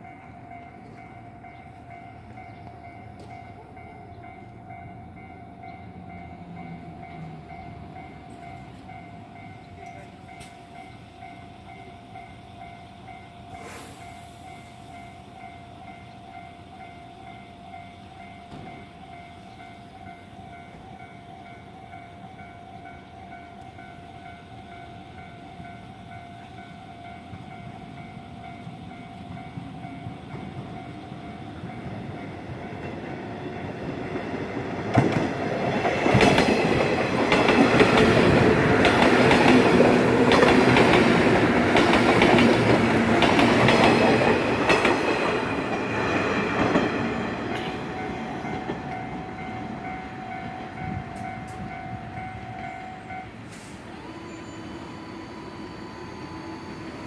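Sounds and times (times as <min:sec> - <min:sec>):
crossing warning bell ringing: 0:00.0 - 0:57.0
electric train rumble and clatter: 0:00.0 - 0:57.0.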